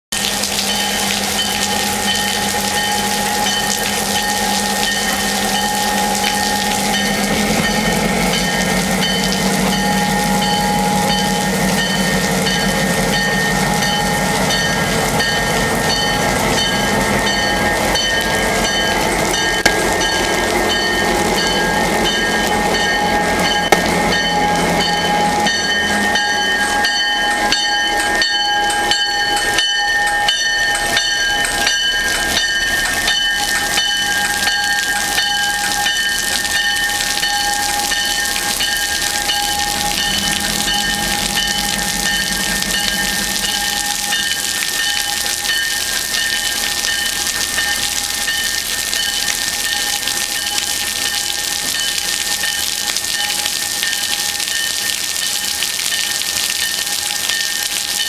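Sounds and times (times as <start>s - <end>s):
diesel locomotive engine hum: 0.1s - 58.0s
rainfall: 0.1s - 58.0s
wheels clicking on rails: 0.1s - 58.0s.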